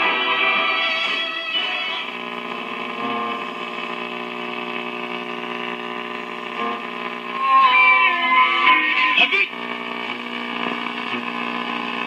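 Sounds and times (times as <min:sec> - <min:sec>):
radio buzzing drone: 0:00.0 - 0:12.0.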